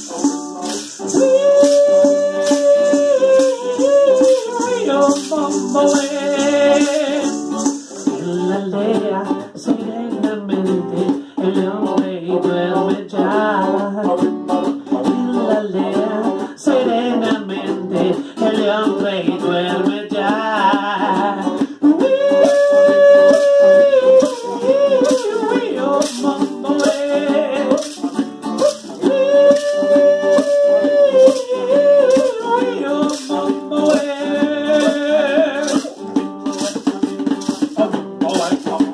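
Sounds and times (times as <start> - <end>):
acoustic guitar strummed: 0.0 - 38.9
hand drum: 0.0 - 38.9
maraca shaken: 0.0 - 38.9
voices singing: 0.0 - 38.9.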